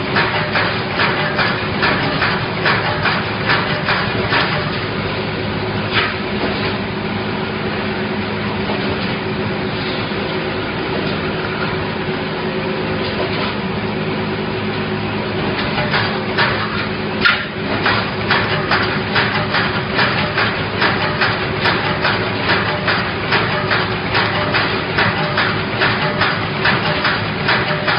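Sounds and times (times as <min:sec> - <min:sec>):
welding machine hum: 0:00.0 - 0:27.9.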